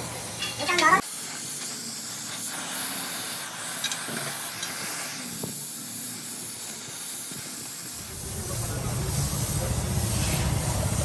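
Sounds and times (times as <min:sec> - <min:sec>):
welding torch flame hissing: 0:00.0 - 0:11.0.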